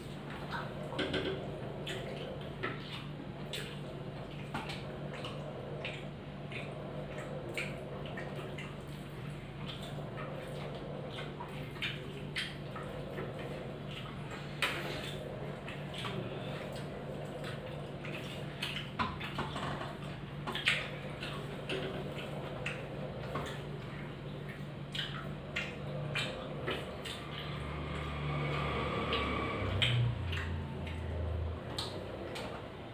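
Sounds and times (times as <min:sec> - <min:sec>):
chewing smacks: 0:00.0 - 0:32.9
steady low hum: 0:00.0 - 0:32.9
wet squishing of rice: 0:00.0 - 0:32.9.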